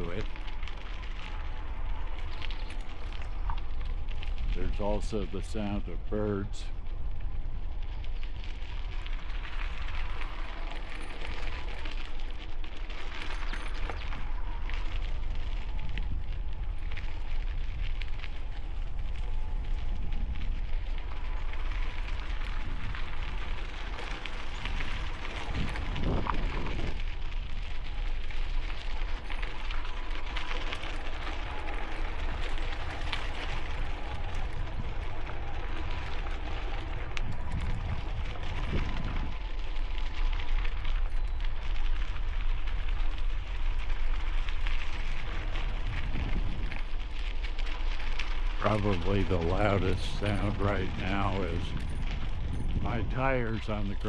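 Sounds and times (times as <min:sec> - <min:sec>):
bicycle tyres crunching on gravel: 0:00.0 - 0:54.0
wind rumbling on microphone: 0:00.0 - 0:54.0.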